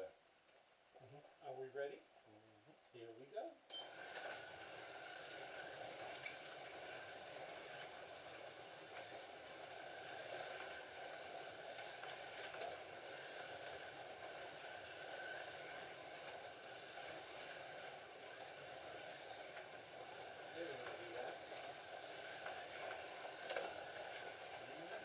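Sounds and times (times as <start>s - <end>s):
slot cars whirring on track: 3.7s - 25.0s.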